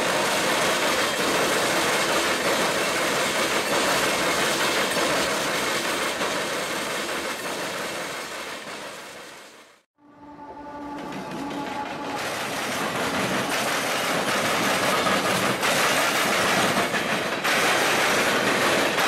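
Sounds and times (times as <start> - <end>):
train wheels rolling on rails: 0.0 - 9.9, 10.8 - 19.0.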